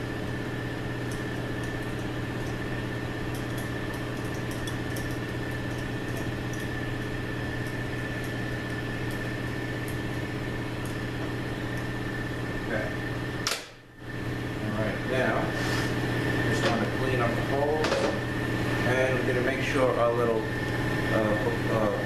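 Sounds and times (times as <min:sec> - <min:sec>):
machine hum with high whine: 0:00.0 - 0:22.0.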